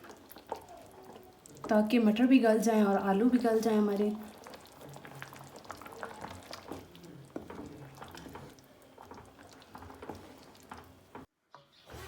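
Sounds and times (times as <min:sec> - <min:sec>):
curry bubbling in a pot: 0:00.0 - 0:11.3.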